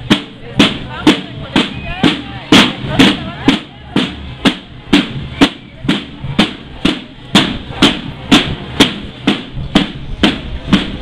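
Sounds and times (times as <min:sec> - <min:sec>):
marching band drums: 0:00.0 - 0:11.0.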